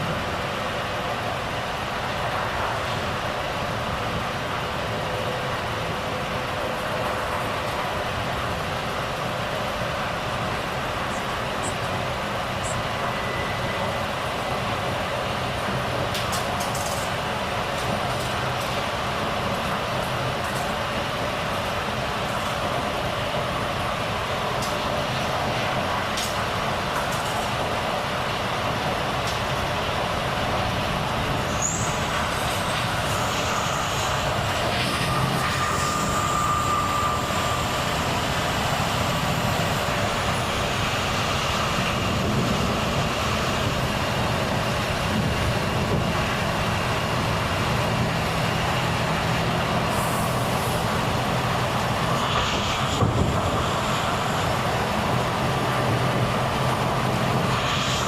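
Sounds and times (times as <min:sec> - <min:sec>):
diesel truck engine: 0:00.0 - 0:58.0
road noise: 0:00.0 - 0:58.0.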